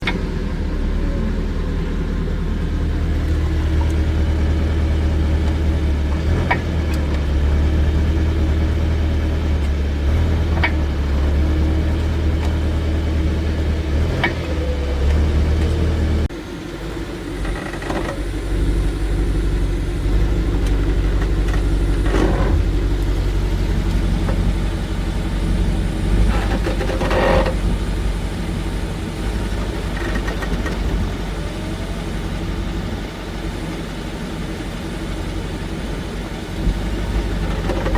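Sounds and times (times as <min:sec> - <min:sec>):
car driving drone: 0:00.0 - 0:37.9.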